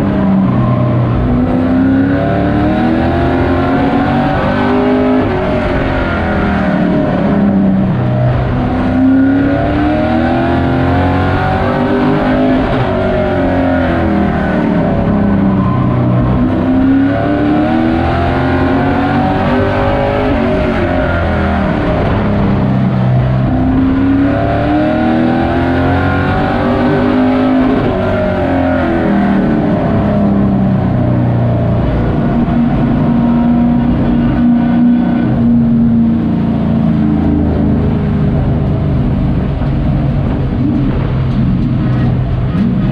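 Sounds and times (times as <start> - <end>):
racing truck engine accelerating: 0.0 - 42.9.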